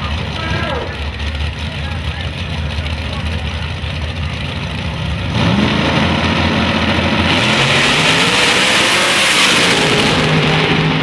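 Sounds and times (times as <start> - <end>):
drag racing engines accelerating: 0.0 - 11.0.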